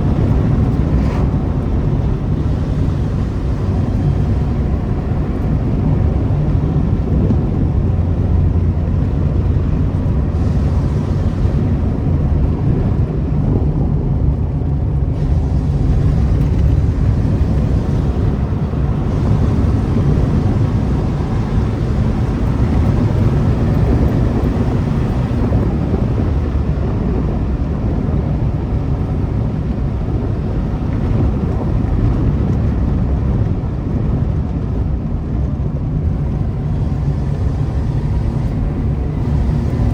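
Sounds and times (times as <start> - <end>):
car exhaust running deep: 0.0 - 39.9.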